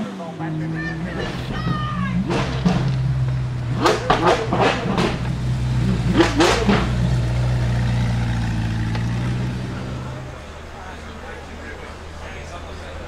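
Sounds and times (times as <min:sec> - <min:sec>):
car engine idling and blipping: 0:00.4 - 0:13.0.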